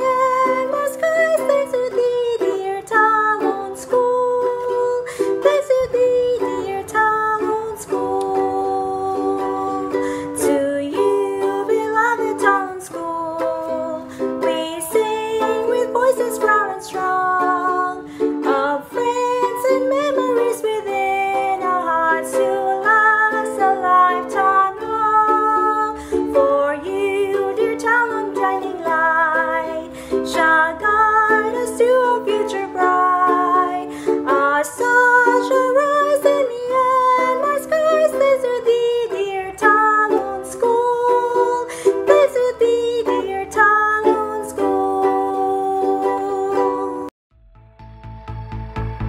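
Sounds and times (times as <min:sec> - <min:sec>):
ukulele strumming: 0:00.0 - 0:47.1
woman singing: 0:00.0 - 0:47.1.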